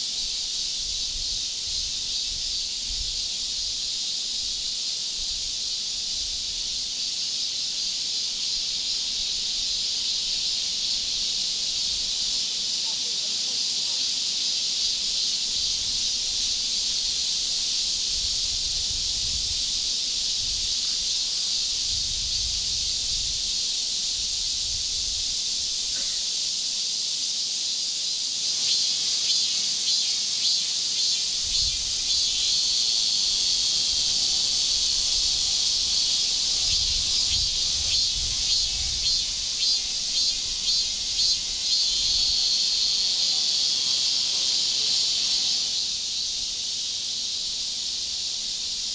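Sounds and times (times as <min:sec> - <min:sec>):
insects shrilling: 0:00.0 - 0:48.9
pulsing insect call: 0:00.0 - 0:48.9.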